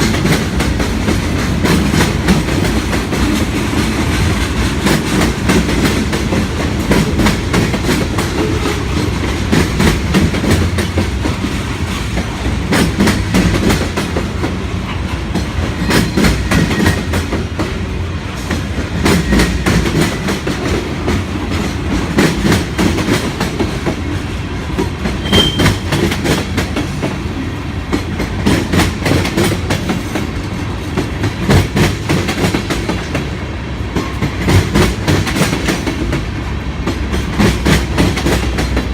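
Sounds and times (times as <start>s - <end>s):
freight cars rumbling: 0.0s - 38.9s.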